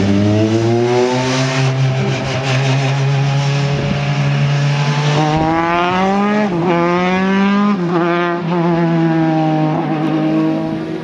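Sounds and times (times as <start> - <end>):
race car engine accelerating: 0.0 - 11.0.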